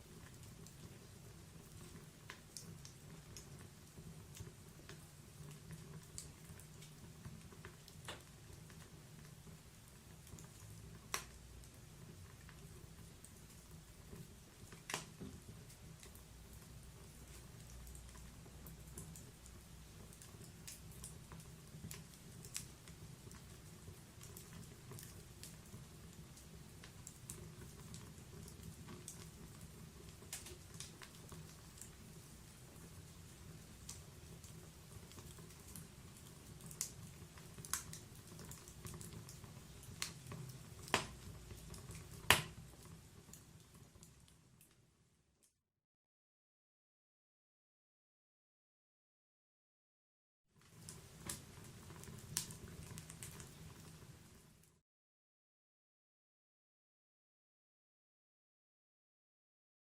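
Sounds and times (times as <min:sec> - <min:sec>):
wood fire crackling: 0:00.0 - 0:44.9, 0:50.6 - 0:54.8.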